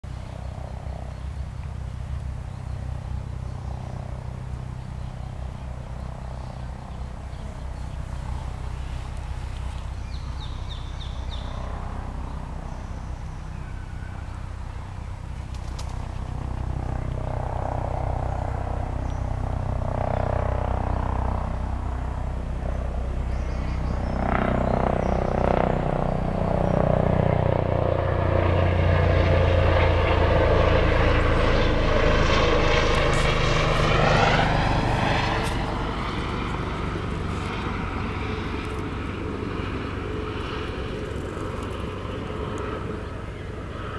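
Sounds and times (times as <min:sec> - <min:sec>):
propeller aircraft engine drone: 0:00.0 - 0:43.9.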